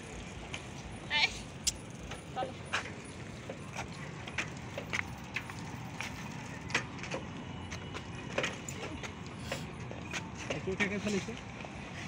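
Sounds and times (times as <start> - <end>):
bicycle rattling: 0.0 - 12.0.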